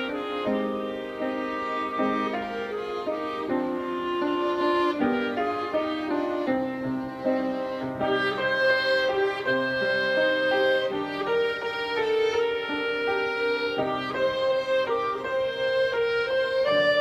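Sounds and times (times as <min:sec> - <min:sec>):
clarinet playing: 0:00.0 - 0:17.0
piano accompaniment: 0:00.0 - 0:17.0
violins playing: 0:00.0 - 0:17.0.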